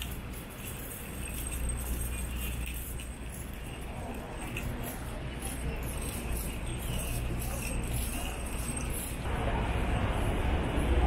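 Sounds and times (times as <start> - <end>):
high-pitched clinking: 0.0 - 9.3
traffic rumble: 0.0 - 11.0.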